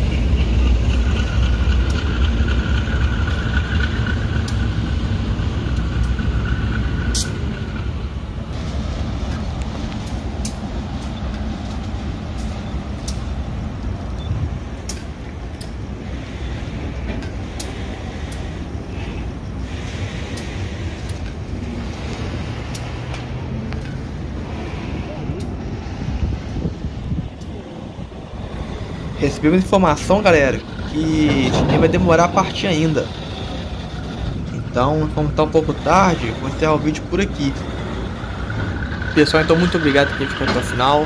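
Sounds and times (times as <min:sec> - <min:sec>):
locomotive engine rumble: 0:00.0 - 0:41.0.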